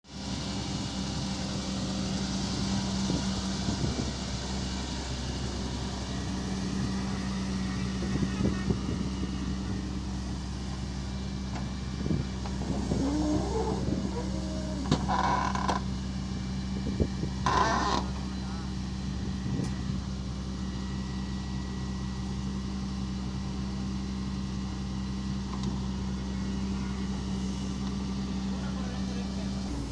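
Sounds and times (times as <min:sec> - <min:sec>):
excavator diesel engine running: 0:00.1 - 0:29.9.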